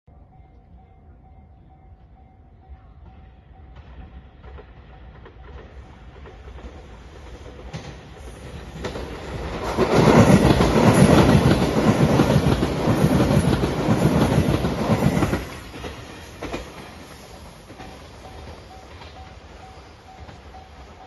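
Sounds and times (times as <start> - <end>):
electric train passing: 0.1 - 21.0
train wheels clacking over rail joints: 3.8 - 21.0.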